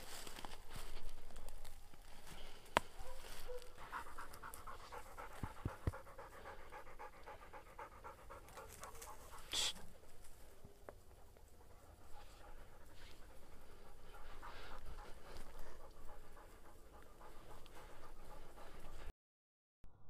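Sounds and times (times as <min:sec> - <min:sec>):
dog panting: 0:02.2 - 0:19.1.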